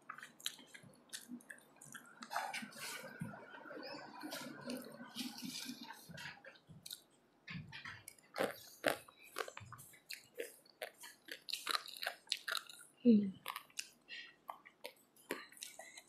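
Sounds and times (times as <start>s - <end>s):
person chewing: 0.0s - 3.2s, 4.2s - 7.1s, 7.8s - 16.0s.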